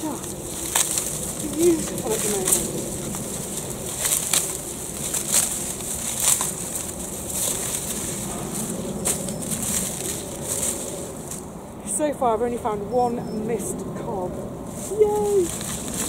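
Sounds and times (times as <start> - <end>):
dry plant stalks rustling and snapping: 0.0 - 11.6, 14.6 - 16.0.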